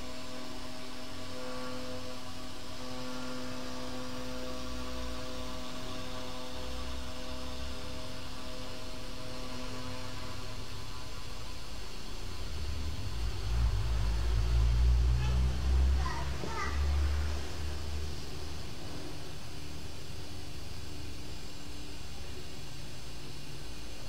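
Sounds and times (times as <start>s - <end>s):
engraving machine spindle humming: 0.0s - 24.0s.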